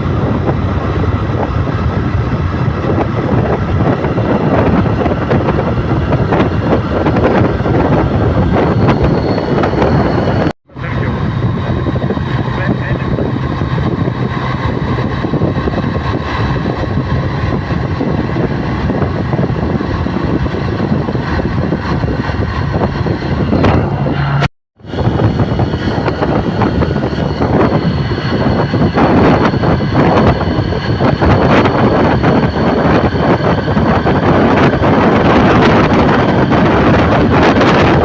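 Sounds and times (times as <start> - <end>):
vehicle running: 0.0 - 38.0
wind on microphone: 0.0 - 38.0.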